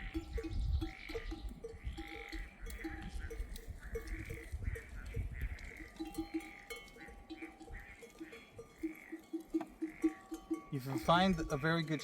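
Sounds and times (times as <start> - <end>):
sheep bells clanking: 0.0 - 12.0.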